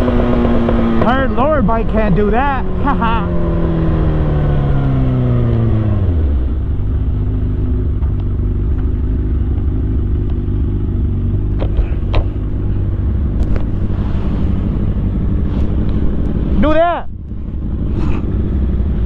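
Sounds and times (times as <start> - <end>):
motorcycle engine idling low: 0.0 - 19.0.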